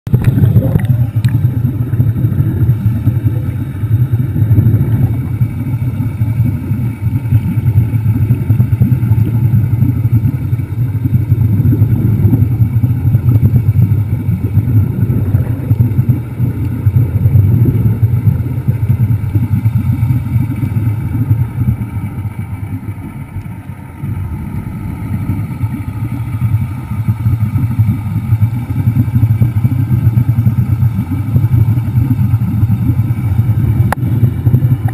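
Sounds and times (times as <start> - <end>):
underwater scooter motor drone: 0.0 - 34.9.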